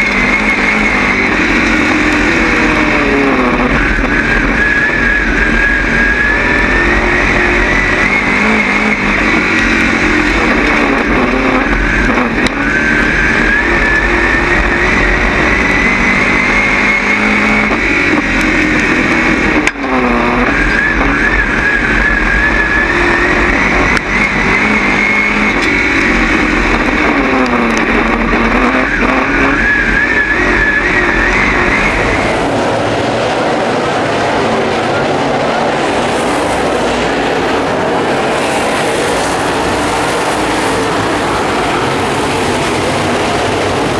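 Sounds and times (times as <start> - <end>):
race car engine revving: 0.0 - 43.9.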